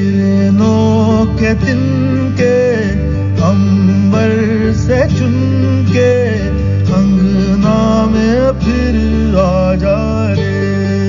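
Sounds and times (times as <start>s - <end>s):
guitar: 0.0s - 11.0s
person singing: 0.0s - 11.0s
steady bass: 0.0s - 11.0s.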